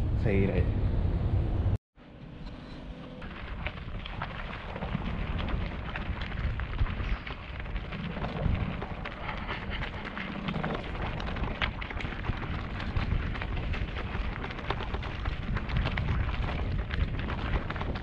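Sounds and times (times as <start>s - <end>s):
bike rattling: 3.0s - 18.0s
wind rumble on microphone: 3.0s - 18.0s
bike tyres crunching over gravel: 3.2s - 18.0s.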